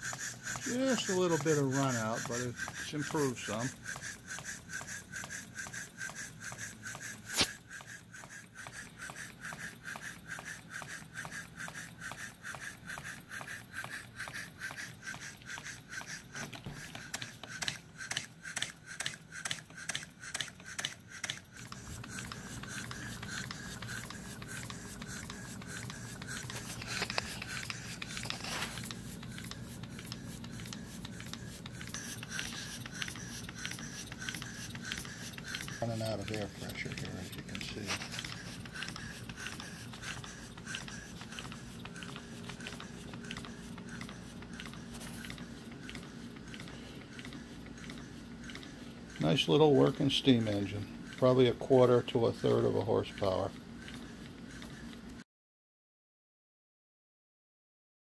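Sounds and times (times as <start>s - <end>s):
steam engine exhaust puffing: 0.0s - 54.9s.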